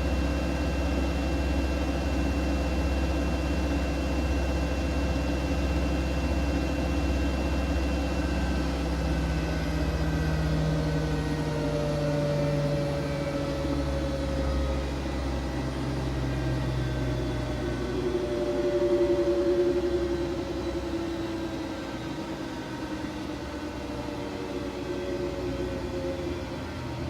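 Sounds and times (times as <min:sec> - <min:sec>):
washing machine motor whining: 0:03.0 - 0:27.0.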